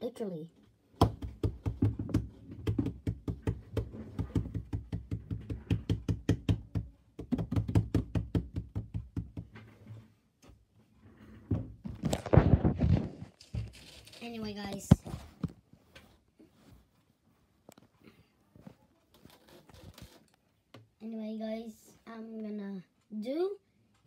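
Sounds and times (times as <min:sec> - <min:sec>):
rubbing handling noise: 0:00.7 - 0:20.4.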